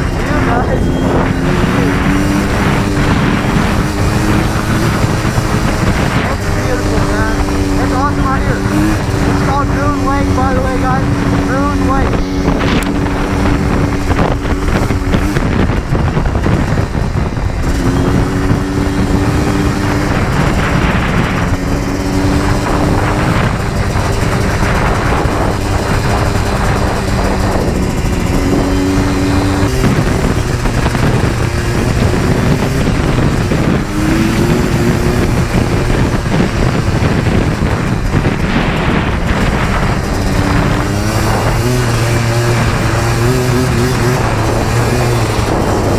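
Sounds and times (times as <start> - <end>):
two-stroke engine revving: 0.0 - 45.9
wind noise on microphone: 0.0 - 45.9.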